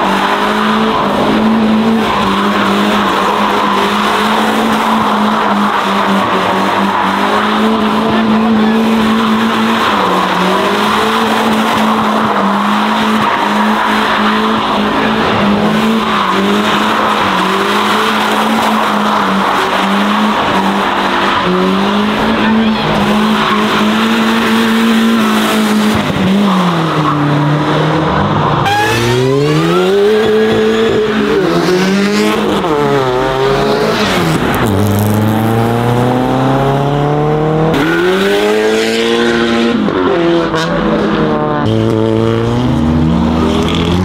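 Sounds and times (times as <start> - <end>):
car engine revving high: 0.0 - 44.0.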